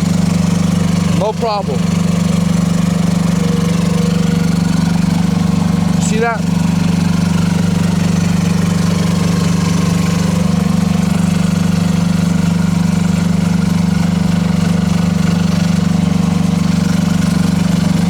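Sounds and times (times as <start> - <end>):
mini excavator diesel engine running: 0.0 - 18.0.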